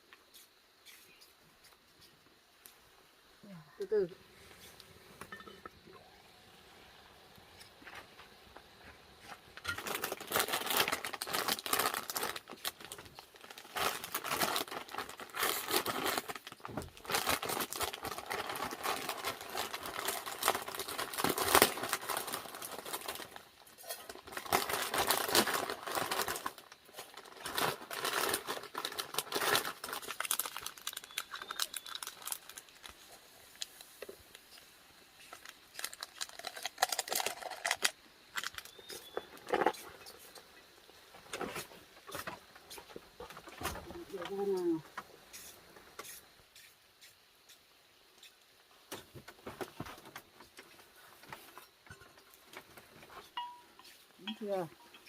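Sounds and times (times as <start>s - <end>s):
crinkling and rustling: 7.3s - 55.0s.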